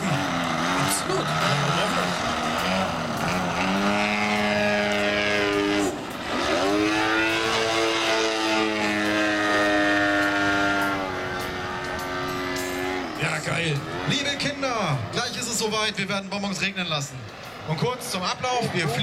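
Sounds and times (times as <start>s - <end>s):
model plane engine and propeller: 0.0s - 15.6s.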